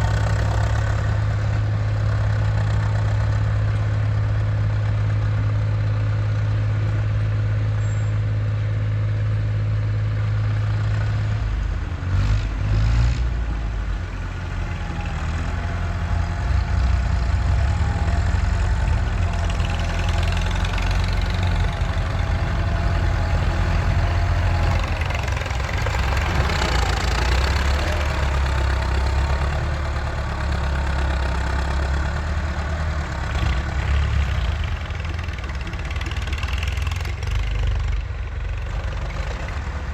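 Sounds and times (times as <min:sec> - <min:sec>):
engine clatter: 0:00.0 - 0:08.1, 0:10.0 - 0:39.9
tractor diesel engine running: 0:00.0 - 0:39.9.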